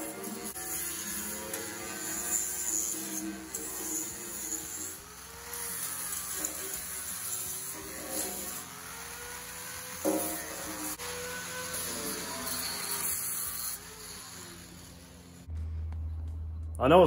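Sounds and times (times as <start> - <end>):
angle grinder grinding metal: 0.0 - 15.5.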